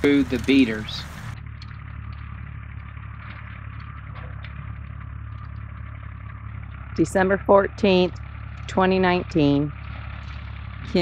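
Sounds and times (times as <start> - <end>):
tractor engine running: 0.0 - 11.0
faint clattering: 1.3 - 11.0.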